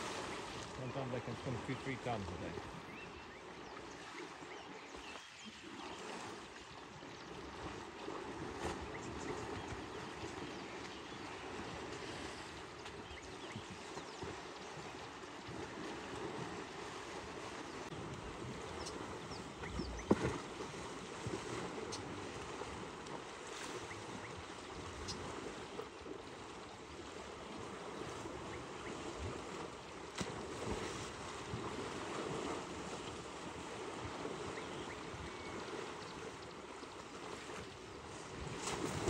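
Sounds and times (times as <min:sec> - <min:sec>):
water sloshing and splashing: 0:00.0 - 0:39.0.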